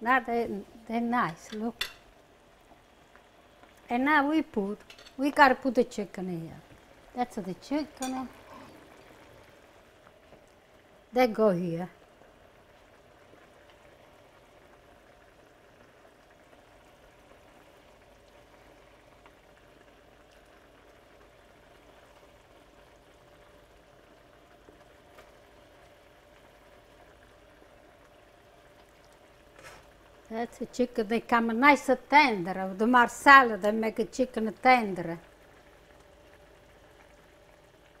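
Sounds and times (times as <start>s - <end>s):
sauce bubbling in a skillet: 0.0s - 38.0s.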